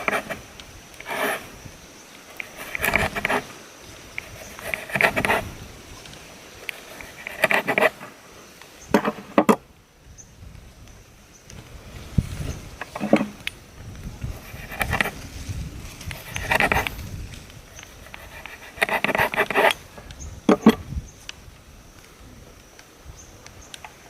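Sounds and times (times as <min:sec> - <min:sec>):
faint high insect drone: 0:00.0 - 0:24.0.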